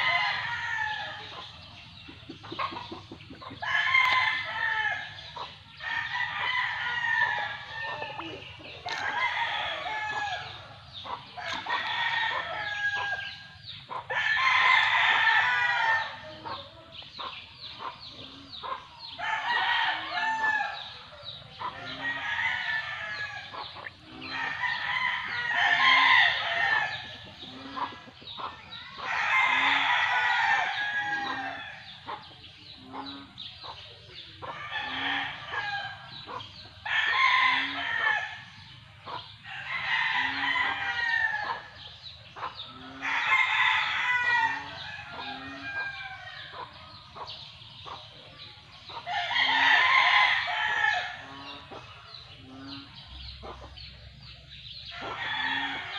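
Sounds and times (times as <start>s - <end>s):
chickens clucking: 0.0s - 55.9s
roosters crowing: 0.0s - 55.9s.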